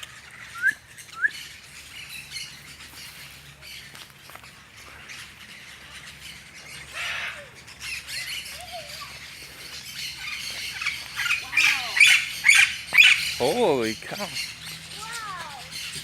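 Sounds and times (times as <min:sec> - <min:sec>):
birds squawking: 0:00.0 - 0:16.0.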